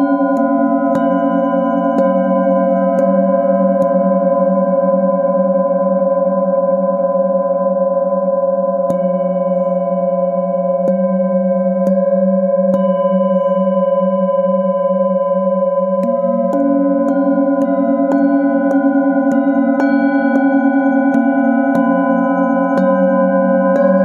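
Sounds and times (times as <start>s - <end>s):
singing bowl struck with mallet: 0.0s - 6.0s, 8.7s - 24.0s.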